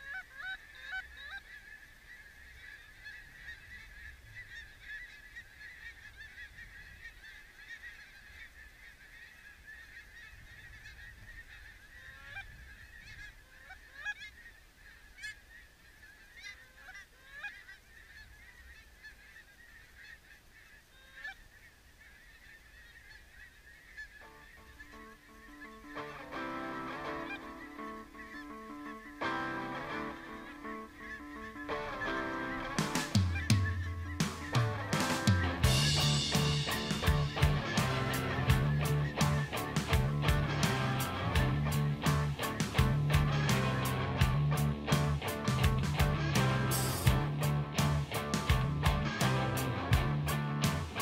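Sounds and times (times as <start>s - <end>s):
geese honking: 0.0s - 51.0s.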